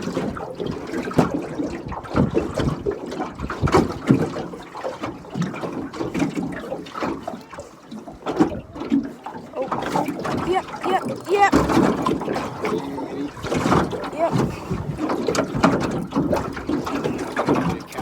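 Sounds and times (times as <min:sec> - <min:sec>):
water sloshing around boat: 0:00.0 - 0:18.0.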